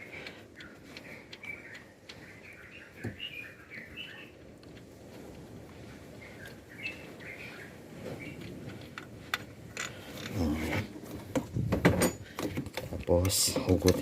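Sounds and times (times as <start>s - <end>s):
birds chirping: 0.0s - 11.3s.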